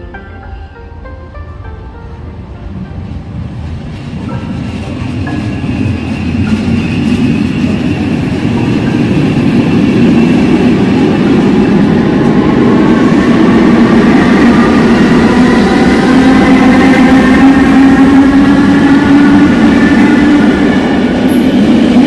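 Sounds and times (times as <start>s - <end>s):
passenger train rumble and wheel noise: 0.0s - 22.0s.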